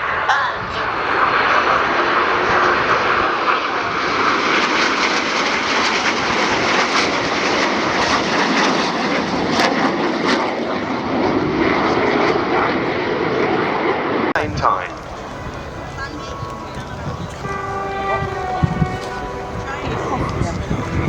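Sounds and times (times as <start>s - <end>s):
aircraft engine in flight: 0.0s - 21.0s.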